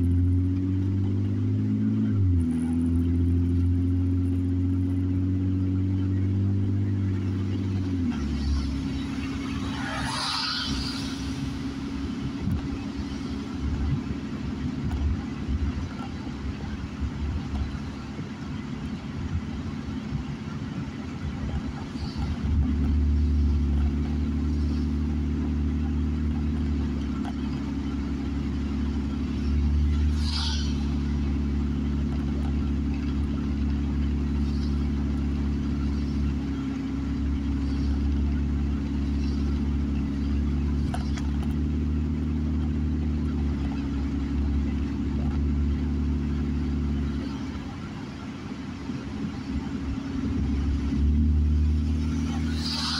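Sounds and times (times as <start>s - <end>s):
car engine and tyre noise: 0.0s - 52.9s.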